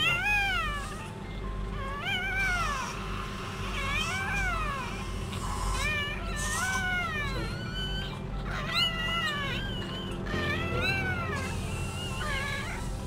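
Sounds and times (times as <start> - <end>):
puppies crying: 0.0 - 13.0.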